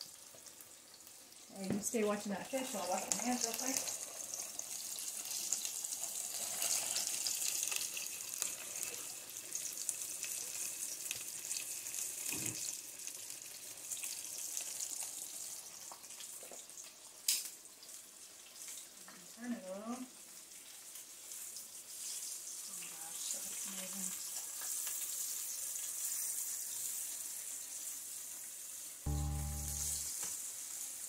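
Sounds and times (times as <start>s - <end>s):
fish frying in hot oil: 0.0s - 31.0s.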